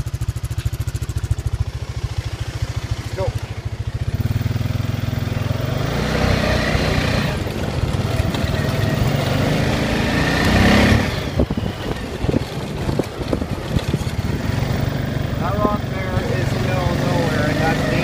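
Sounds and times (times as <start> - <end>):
knocks and rattles over rough ground: 0.0 - 5.6, 6.3 - 18.0
atv engine revving: 0.0 - 18.0.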